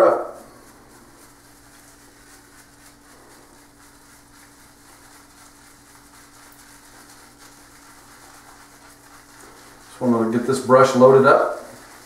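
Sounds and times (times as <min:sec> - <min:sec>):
shaving brush rubbing soap: 0:00.0 - 0:12.0.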